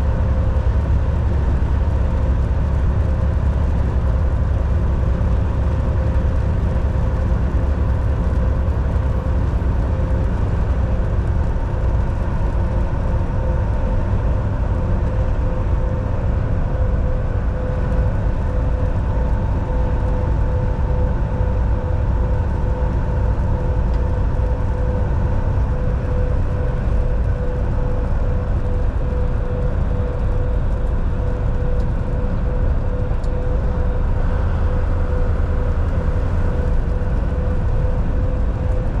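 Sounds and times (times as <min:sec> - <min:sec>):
mid-pitched hum: 0:00.0 - 0:39.0
truck engine and road rumble: 0:00.0 - 0:39.0.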